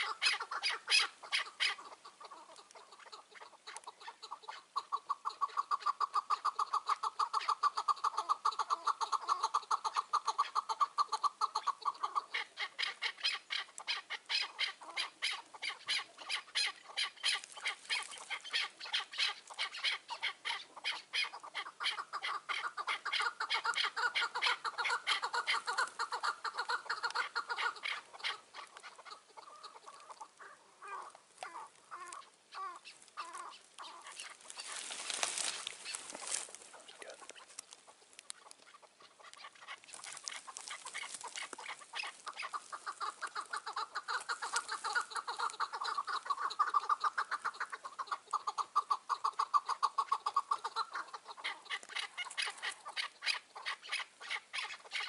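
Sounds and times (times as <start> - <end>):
partridge chuck calls: 0.0 - 55.0.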